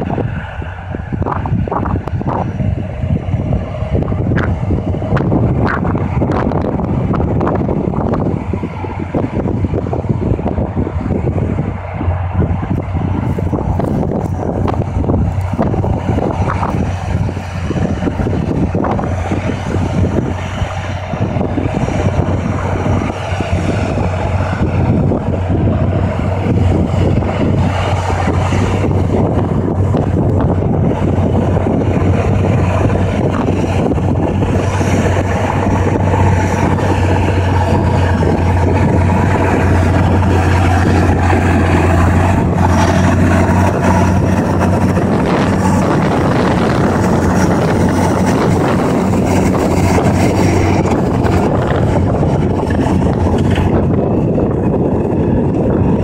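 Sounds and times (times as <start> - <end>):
tractor engine working under load: 0.0 - 56.0
wind buffeting on microphone: 0.0 - 56.0.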